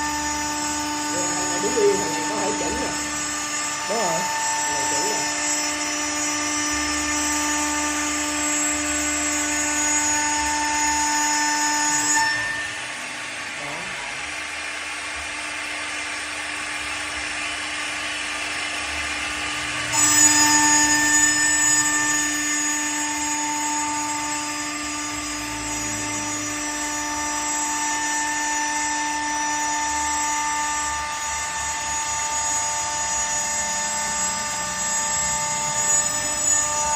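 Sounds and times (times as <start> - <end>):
machine whine: 0.0 - 36.9
noisy machine working sound: 0.0 - 36.9.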